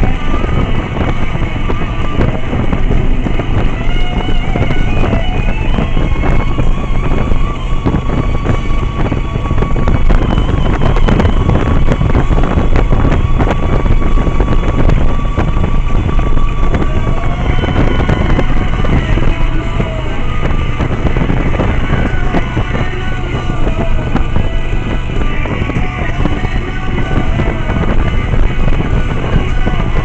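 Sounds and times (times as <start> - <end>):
motorcycle engine running: 0.0 - 30.0
music playing: 0.0 - 30.0
wind rushing on microphone: 0.0 - 30.0.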